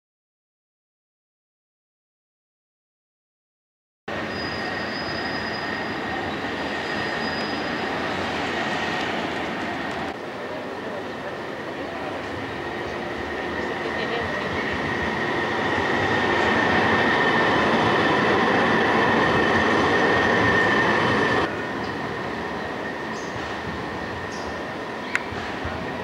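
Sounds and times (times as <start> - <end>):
tram wheels rumbling on rails: 4.1 - 26.0.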